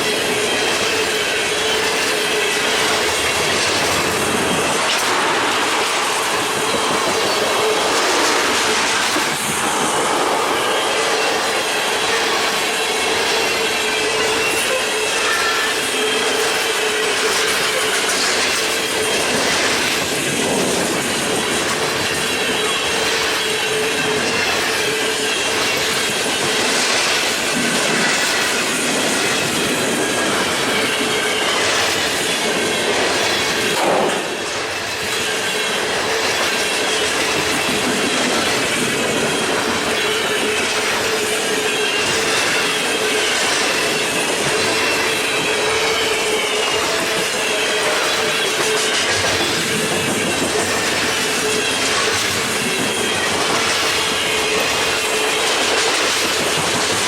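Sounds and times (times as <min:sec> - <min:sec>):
train wheels squealing: 0:00.0 - 0:57.0
wheels clacking over rail joints: 0:00.0 - 0:57.0.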